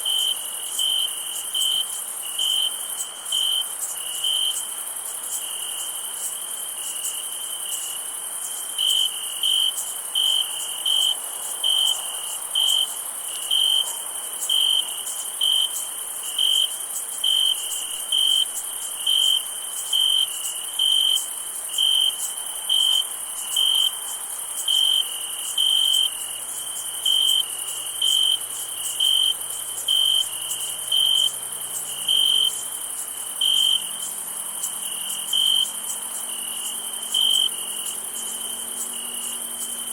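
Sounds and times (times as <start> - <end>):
cricket chirping: 0.0 - 39.9
insect trill: 0.0 - 39.9.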